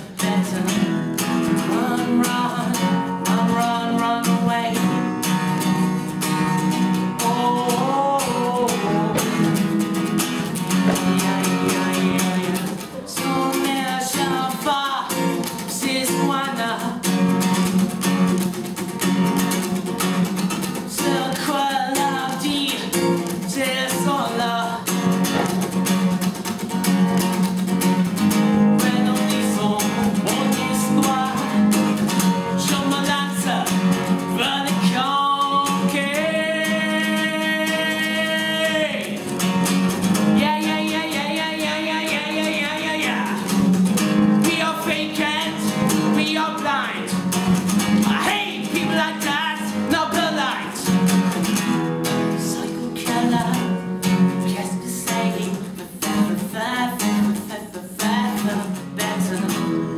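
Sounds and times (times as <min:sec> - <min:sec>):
person singing: 0:00.0 - 0:17.7, 0:20.7 - 0:25.7, 0:28.6 - 0:59.9
acoustic guitar: 0:00.0 - 0:59.9.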